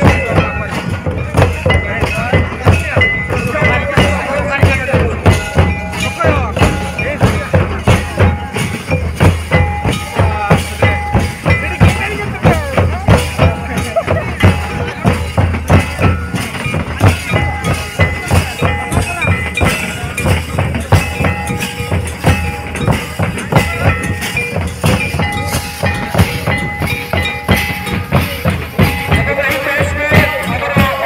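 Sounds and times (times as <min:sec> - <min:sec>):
barrel drums playing fast rhythm: 0:00.0 - 0:31.0
held melody: 0:00.0 - 0:31.0.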